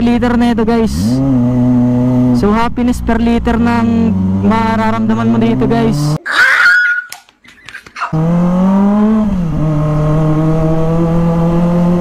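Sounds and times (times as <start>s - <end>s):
motorcycle engine at mid revs: 0.0s - 6.2s, 8.1s - 12.0s.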